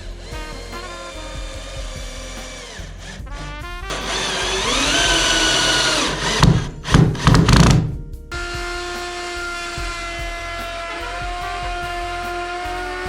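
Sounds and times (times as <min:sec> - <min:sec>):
power tool whining: 0:00.0 - 0:03.2, 0:03.9 - 0:13.0
background music: 0:00.0 - 0:13.0.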